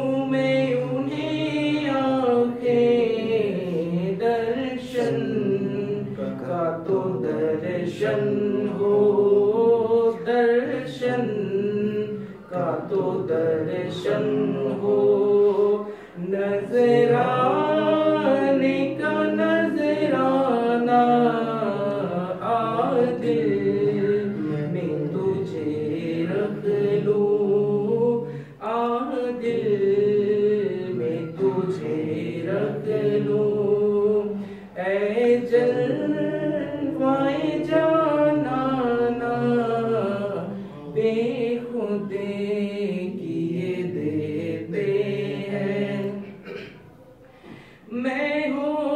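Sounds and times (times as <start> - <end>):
man singing unaccompanied: 0.0 - 46.4, 47.9 - 48.9.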